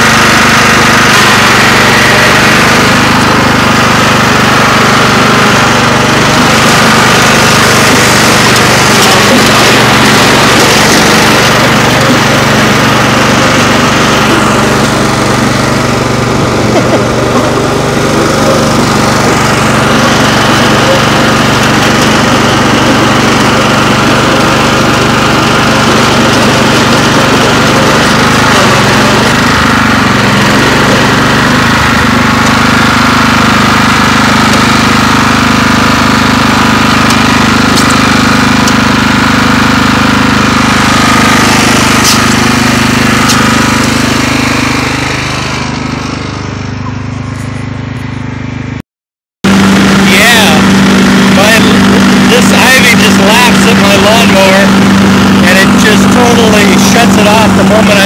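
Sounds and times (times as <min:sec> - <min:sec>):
riding mower engine running: 0:00.0 - 0:48.8, 0:49.4 - 0:58.0.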